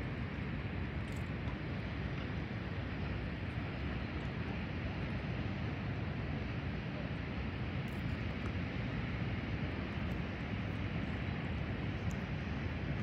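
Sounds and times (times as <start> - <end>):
rumbling background noise with hiss: 0.0 - 13.0.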